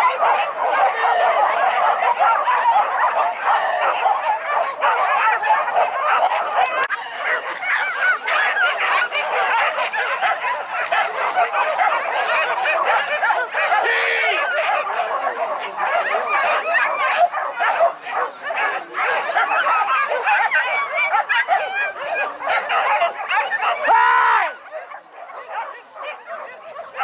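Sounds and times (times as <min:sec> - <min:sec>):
dogs yelping and baying: 0:00.0 - 0:27.0.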